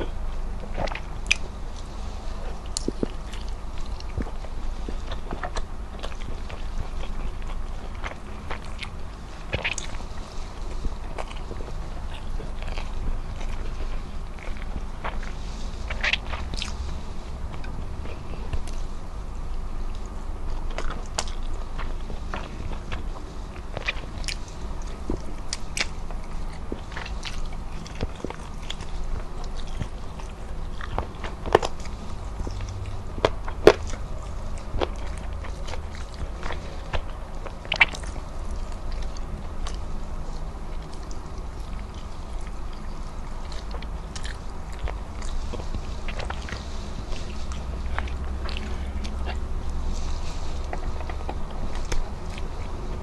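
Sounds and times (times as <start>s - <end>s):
chewing and biting food: 0.0s - 53.0s
steady low hum: 0.0s - 53.0s.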